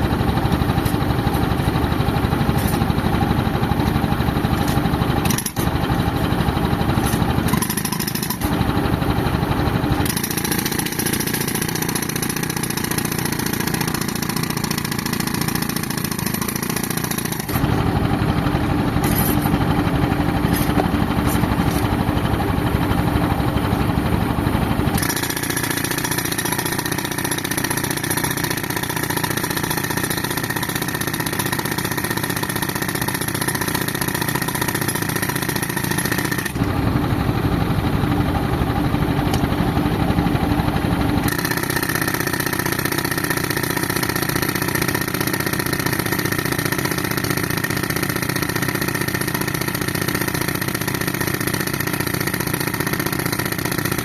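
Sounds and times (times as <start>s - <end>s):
pneumatic breaker hammering concrete: 0.0s - 37.0s, 37.6s - 54.0s
tractor engine running compressor: 0.0s - 54.0s.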